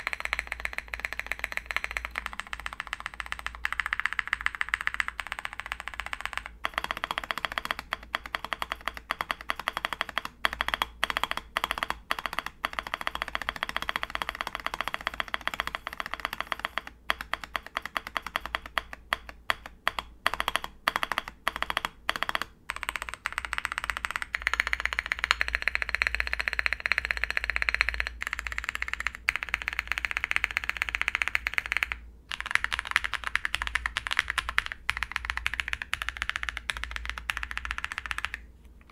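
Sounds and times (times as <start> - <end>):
fast typing on mechanical keyboard: 0.0 - 38.5.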